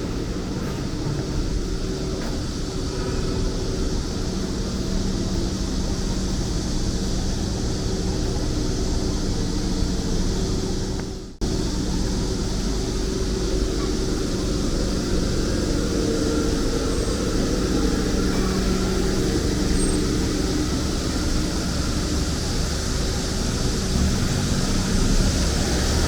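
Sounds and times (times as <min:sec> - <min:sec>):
passing traffic: 0:00.0 - 0:26.0.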